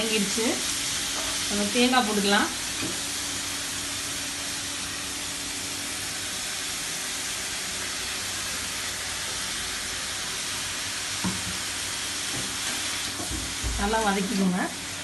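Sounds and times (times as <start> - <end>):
greens sizzling in oil: 0.0 - 15.0.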